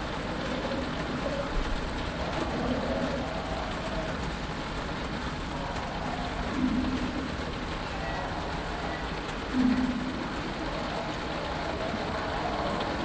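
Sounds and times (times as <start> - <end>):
rain on cockpit canopy: 0.0 - 13.0
wavering swamp creature calls: 0.3 - 13.0.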